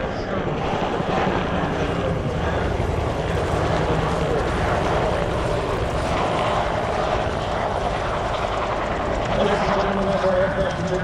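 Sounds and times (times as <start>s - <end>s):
helicopter rotor noise: 0.0s - 11.0s.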